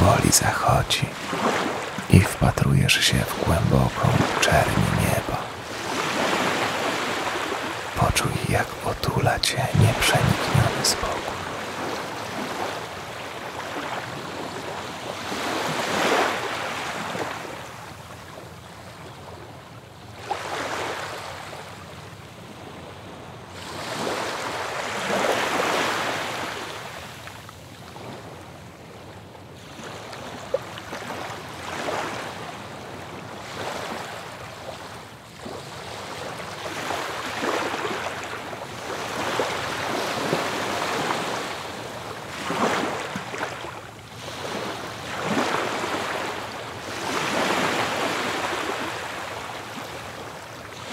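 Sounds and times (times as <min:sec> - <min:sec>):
ocean waves breaking on beach: 0:00.0 - 0:50.9.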